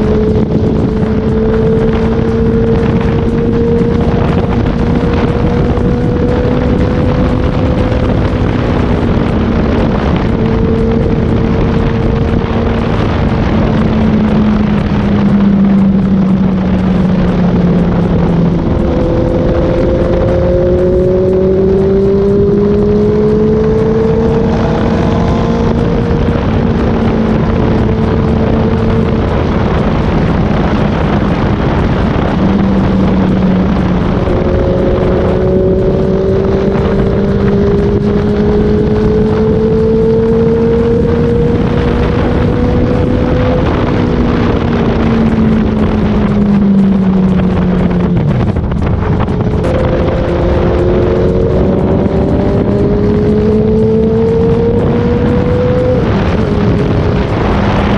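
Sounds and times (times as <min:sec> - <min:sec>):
motorcycle engines running: 0:00.0 - 0:57.9
wind noise: 0:00.0 - 0:57.9.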